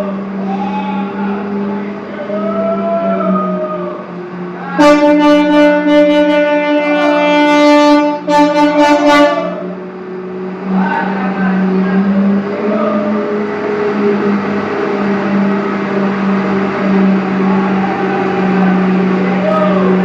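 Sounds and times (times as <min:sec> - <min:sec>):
loud horn blaring: 0:00.0 - 0:20.0
truck engine humming: 0:00.0 - 0:20.0.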